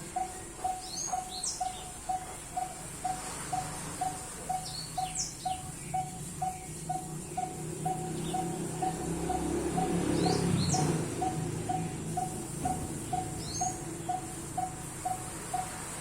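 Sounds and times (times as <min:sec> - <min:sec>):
bird calling repeated note: 0:00.0 - 0:16.0
high bird chirps: 0:00.0 - 0:16.0.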